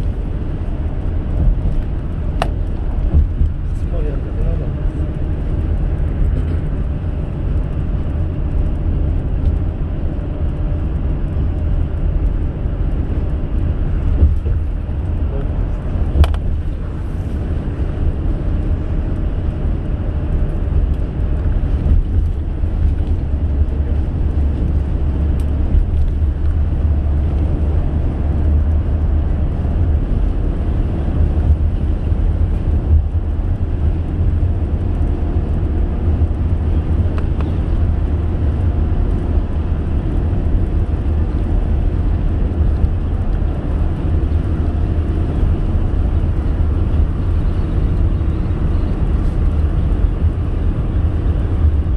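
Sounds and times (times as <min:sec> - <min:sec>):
car driving at speed: 0:00.0 - 0:51.9.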